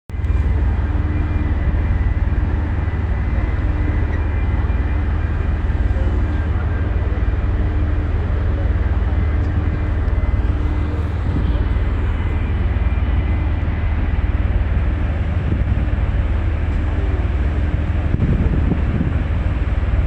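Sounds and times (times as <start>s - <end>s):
faint hum: 0.1s - 20.0s
ferry engines droning: 0.1s - 20.0s.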